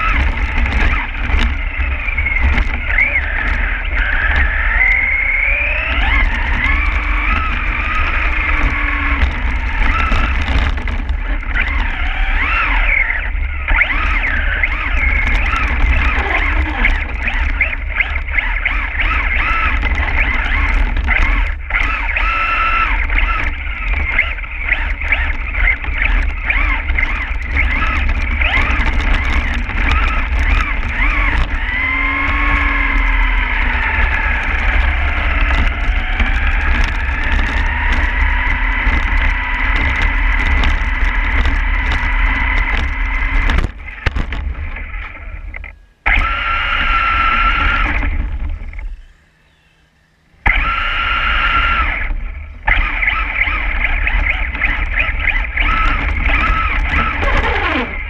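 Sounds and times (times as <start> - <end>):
heavy low rumble: 0.0 - 58.0
toy truck motor whining: 0.0 - 58.0.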